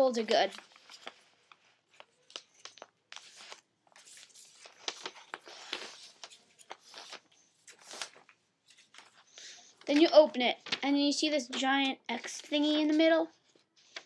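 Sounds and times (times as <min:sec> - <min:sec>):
paper being folded and creased: 0:00.0 - 0:14.0.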